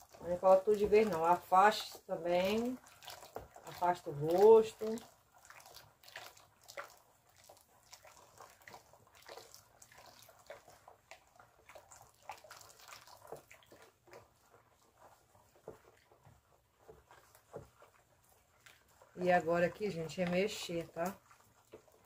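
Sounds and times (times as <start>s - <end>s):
liquid trickling and splashing: 0.0s - 22.0s
wooden spoon stirring thick batter: 0.0s - 22.0s.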